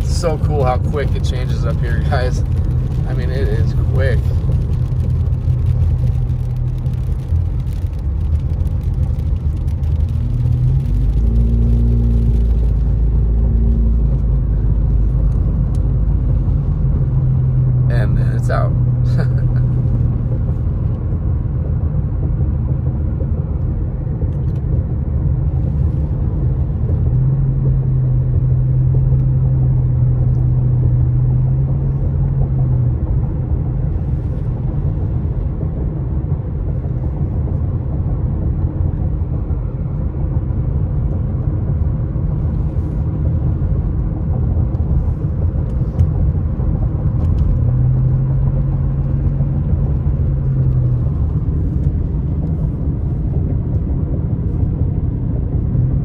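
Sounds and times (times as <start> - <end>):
tyres and engine rumbling: 0.0 - 56.0.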